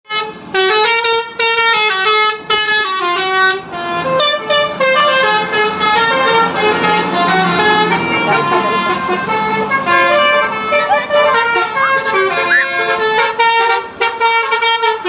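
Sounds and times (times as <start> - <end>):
musical bus air horn: 0.0 - 15.0.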